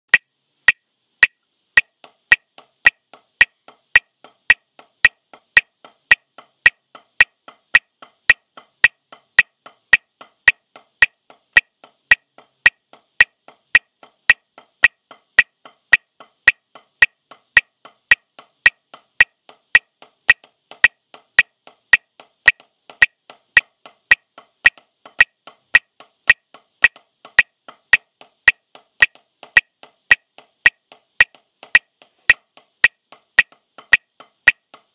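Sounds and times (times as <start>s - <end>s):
drumsticks on practice pad: 0.1s - 34.9s.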